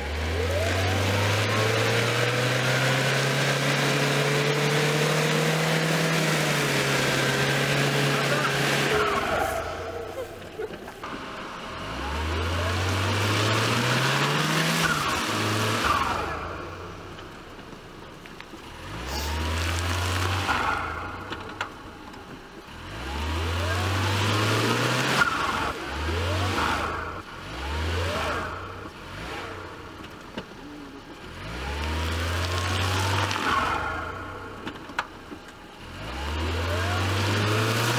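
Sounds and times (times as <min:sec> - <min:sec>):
small car engine revving: 0:00.0 - 0:37.9.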